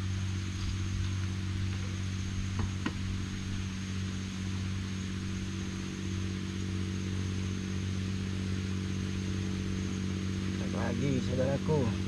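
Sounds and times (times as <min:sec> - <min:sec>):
faint high whine: 0:00.0 - 0:12.0
low motor hum: 0:00.0 - 0:12.0.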